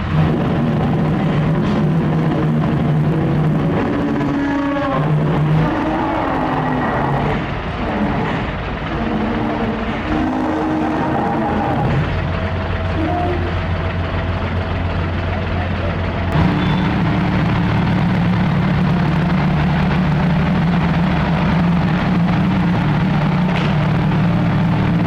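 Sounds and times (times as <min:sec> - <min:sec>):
diesel engine running: 0:00.0 - 0:25.0
low hum: 0:00.0 - 0:25.0.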